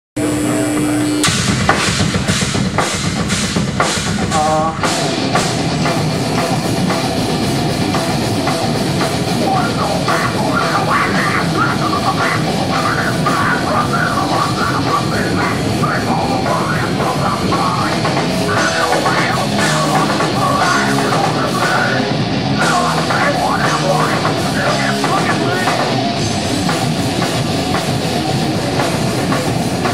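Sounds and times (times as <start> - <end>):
bass guitar: 0.2 - 29.9
distorted electric guitars: 0.2 - 29.9
drum kit: 0.2 - 29.9.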